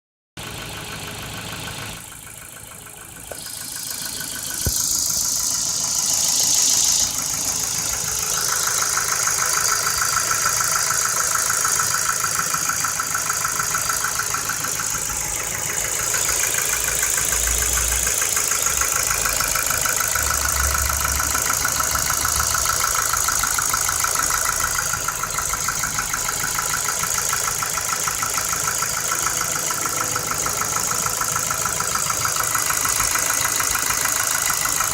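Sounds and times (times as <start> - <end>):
car engine idling: 0.4 - 34.9
rapid engine knock: 0.4 - 34.9.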